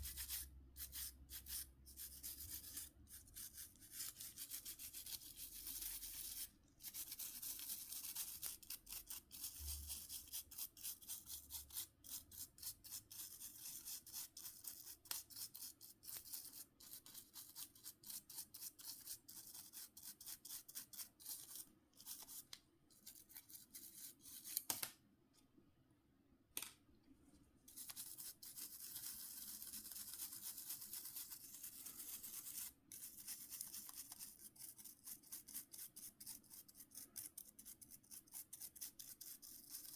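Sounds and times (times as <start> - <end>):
small brush scrubbing: 0.0 - 24.7, 27.3 - 39.9.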